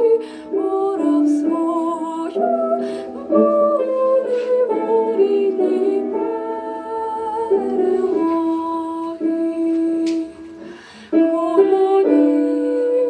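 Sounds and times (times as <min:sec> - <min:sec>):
person singing slow song: 0:00.0 - 0:13.0.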